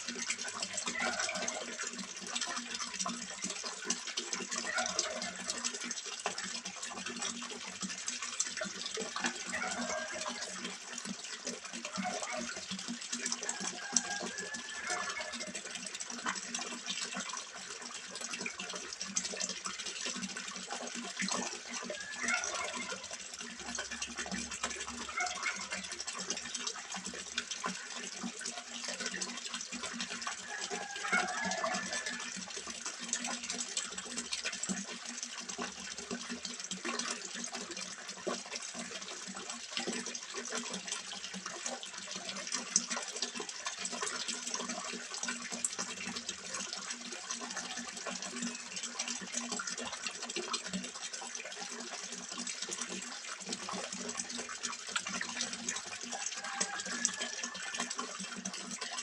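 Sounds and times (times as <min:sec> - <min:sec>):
water splashing into pond: 0:00.0 - 0:59.0.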